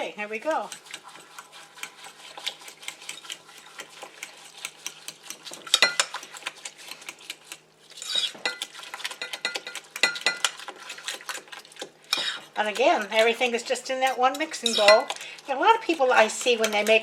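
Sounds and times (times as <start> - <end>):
utensil stirring in a bowl: 0.0 - 17.0
utensil scraping a bowl: 0.4 - 17.0.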